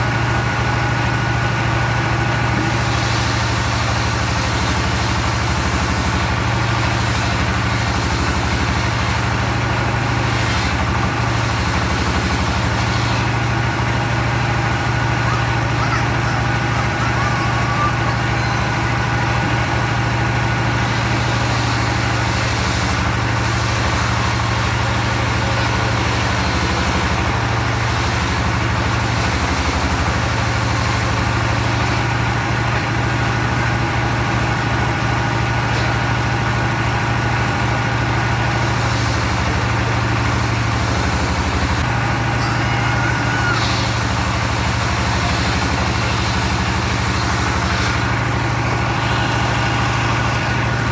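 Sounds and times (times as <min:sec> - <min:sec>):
sawmill engine humming: 0:00.0 - 0:50.9.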